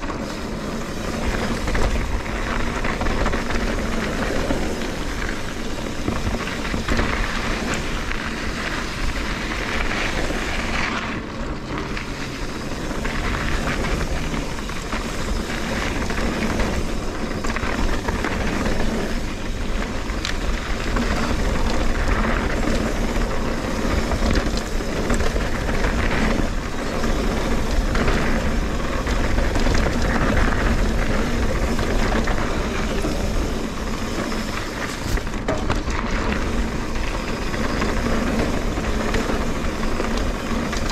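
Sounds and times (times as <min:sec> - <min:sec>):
bike rattling: 0:00.0 - 0:40.9
bike tyre noise on dirt: 0:00.0 - 0:40.9.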